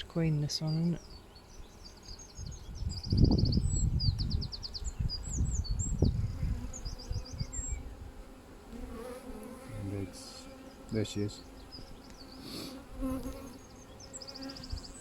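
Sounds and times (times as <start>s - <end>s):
songbird chirping and trilling: 0.0s - 8.2s, 8.9s - 15.0s
bees buzzing: 0.0s - 15.0s.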